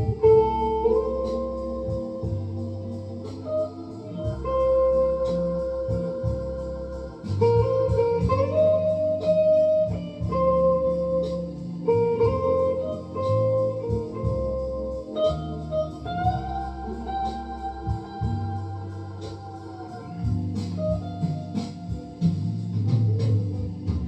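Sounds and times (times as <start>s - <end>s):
bass: 0.0s - 24.0s
electric guitar melody: 0.0s - 24.0s
sustained organ-like chords: 0.0s - 24.0s.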